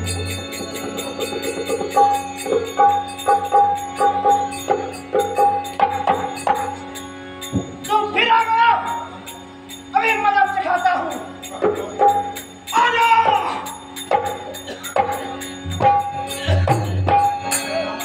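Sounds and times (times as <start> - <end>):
jingling beat: 0.0 - 18.0
stage accompaniment music: 0.0 - 18.0.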